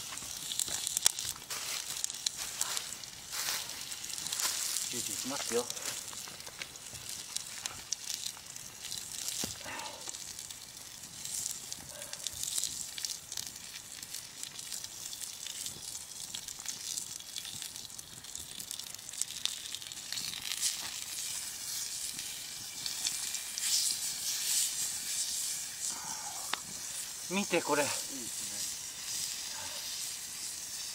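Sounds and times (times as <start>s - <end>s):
crackling fat and campfire: 0.0s - 30.9s
meat sizzling in a pan: 0.0s - 30.9s.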